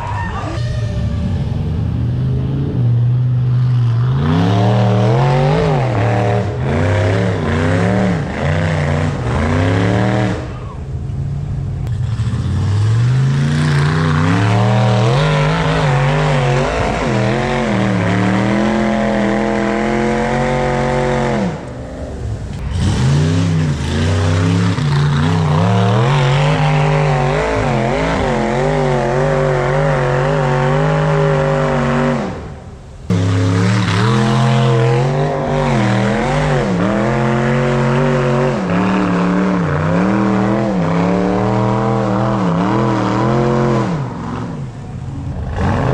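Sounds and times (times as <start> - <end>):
off-road engine revving hard: 0.0 - 10.9, 11.8 - 45.9.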